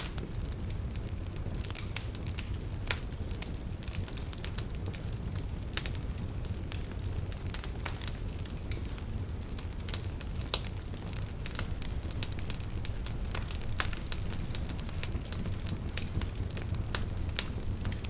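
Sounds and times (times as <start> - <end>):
campfire burning: 0.0 - 18.0
wood crackling and popping: 0.0 - 18.0.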